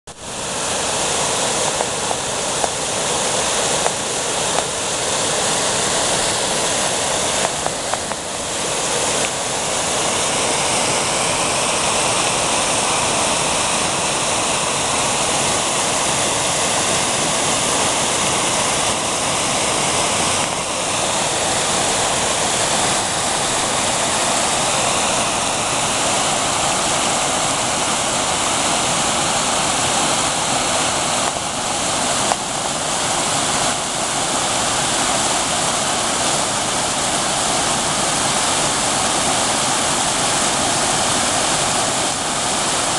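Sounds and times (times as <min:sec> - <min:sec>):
water rushing over rocks: 0:00.1 - 0:42.9.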